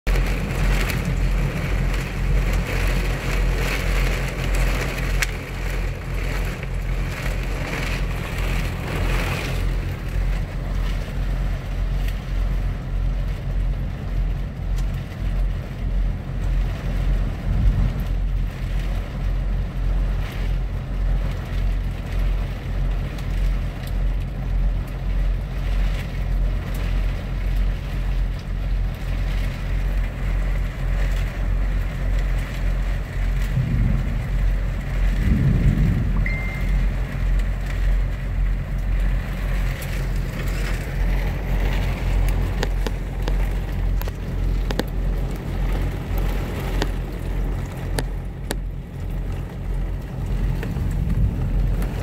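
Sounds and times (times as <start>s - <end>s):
heavy rain on vehicle roof: 0.0s - 52.0s
diesel engine idling: 0.1s - 52.0s.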